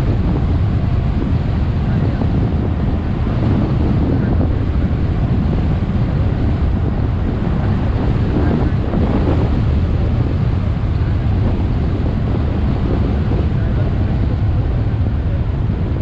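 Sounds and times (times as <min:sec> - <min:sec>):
engine rumble: 0:00.0 - 0:16.0
wind noise on microphone: 0:00.0 - 0:16.0.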